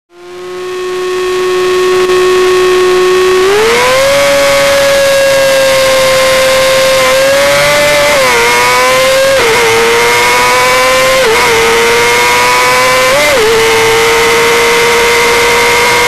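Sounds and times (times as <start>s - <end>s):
motorcycle engine revving through gears: 0.1s - 16.0s.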